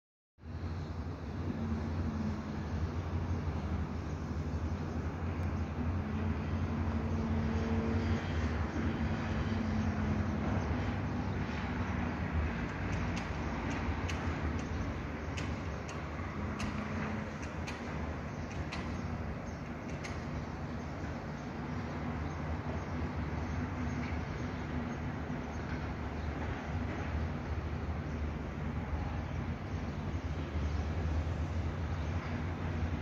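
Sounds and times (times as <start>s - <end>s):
low rumble of city traffic: 0.4s - 33.0s.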